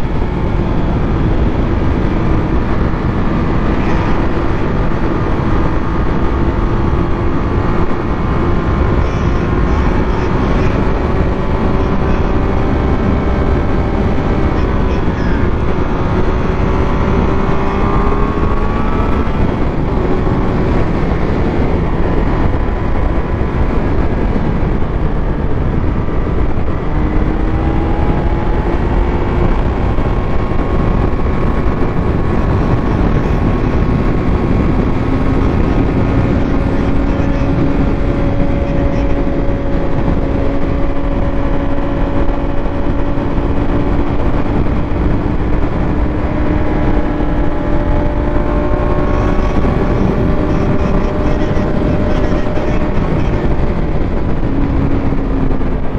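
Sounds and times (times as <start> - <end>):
motorcycle engine running: 0.0 - 55.9
wind rush on microphone: 0.0 - 55.9.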